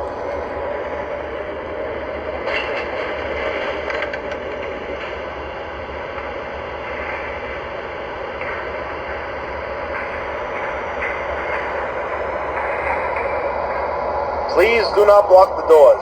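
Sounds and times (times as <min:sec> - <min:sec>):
model train rumble and hum: 0:00.0 - 0:16.0.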